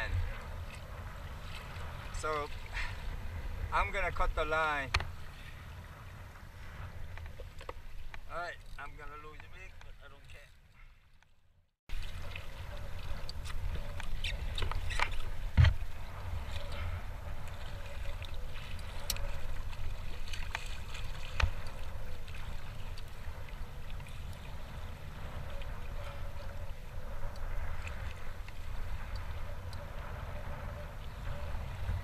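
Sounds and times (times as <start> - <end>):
water sloshing against kayak: 0.0 - 32.0.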